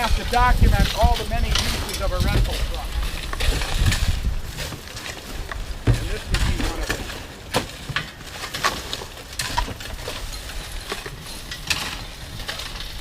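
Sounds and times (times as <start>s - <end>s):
gravel scraping and crunching: 0.0s - 13.0s.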